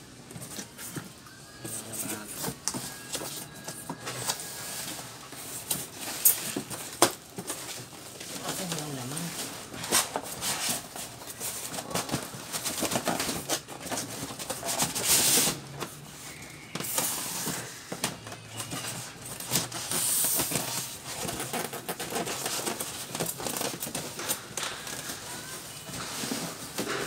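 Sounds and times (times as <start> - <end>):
cardboard and foam rustling: 0.2 - 27.0.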